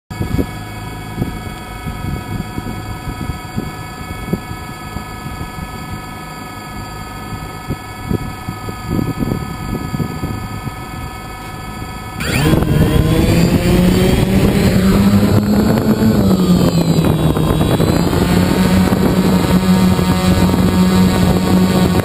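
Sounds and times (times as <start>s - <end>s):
quadcopter motors humming: 0.2s - 22.0s
wind rumbling on microphone: 0.2s - 22.0s.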